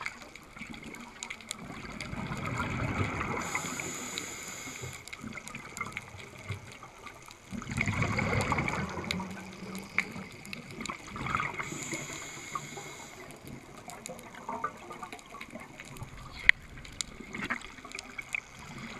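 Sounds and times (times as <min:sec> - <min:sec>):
diver's exhaled bubbles gurgling: 0:00.0 - 0:18.9
sharp clicks underwater: 0:00.0 - 0:18.9.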